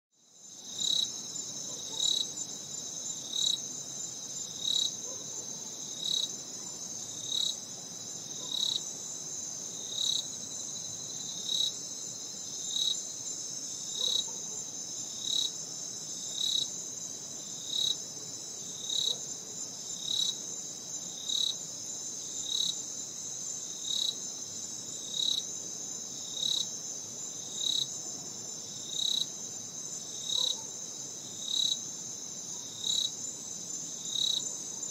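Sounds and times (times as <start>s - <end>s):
insect chirp: 0.2s - 34.9s
insects trilling: 0.4s - 34.9s.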